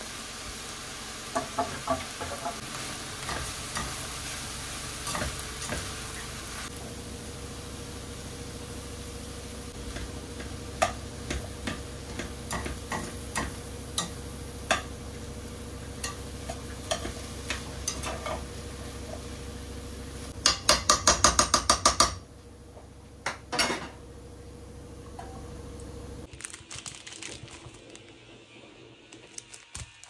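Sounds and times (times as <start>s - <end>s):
low background hum: 0.5s - 30.0s.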